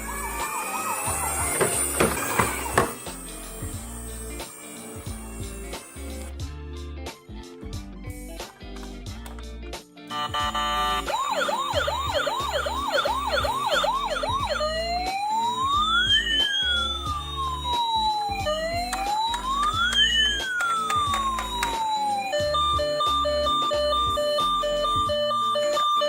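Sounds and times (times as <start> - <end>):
electronic siren yelp and wail: 0.0 - 5.8, 10.2 - 26.0
background music: 0.0 - 26.0.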